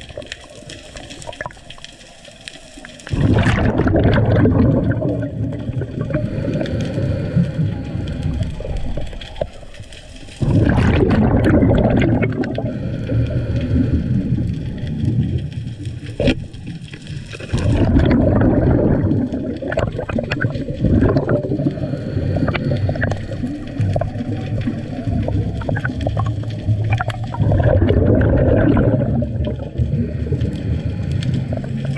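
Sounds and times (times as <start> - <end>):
underwater rushing and bubbling: 0.0 - 31.9.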